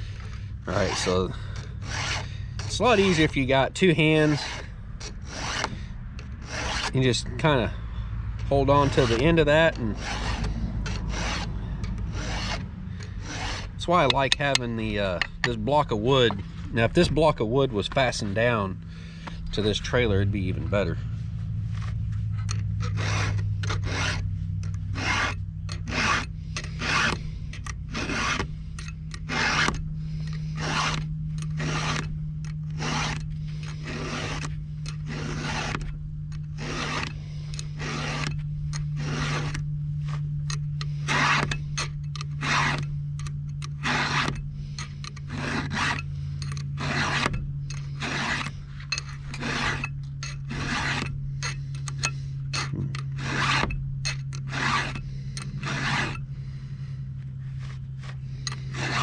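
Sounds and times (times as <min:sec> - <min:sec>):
file rasping on chainsaw chain: 0:00.0 - 0:07.8, 0:08.4 - 0:21.0, 0:22.4 - 0:59.0
steady low hum: 0:00.0 - 0:59.0.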